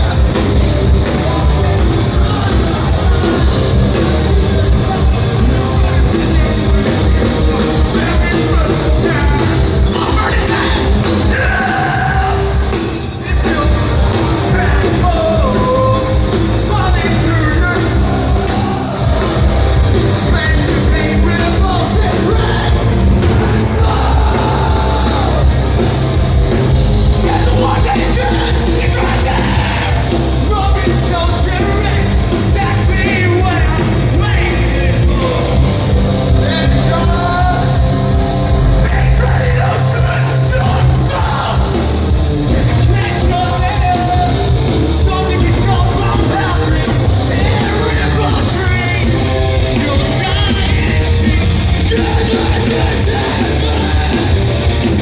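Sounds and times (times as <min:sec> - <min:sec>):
rock band playing live: 0:00.0 - 0:55.0
vocalist singing and yelling: 0:00.0 - 0:55.0.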